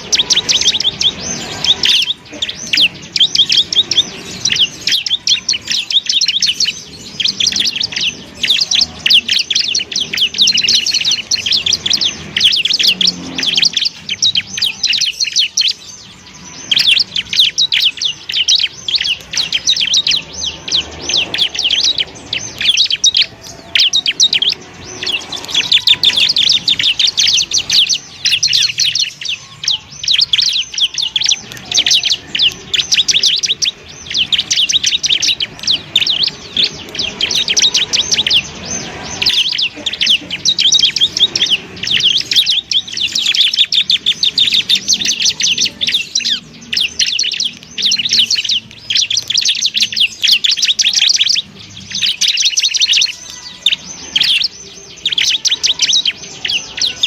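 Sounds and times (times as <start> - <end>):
bird chattering chirps: 0.0 - 57.0.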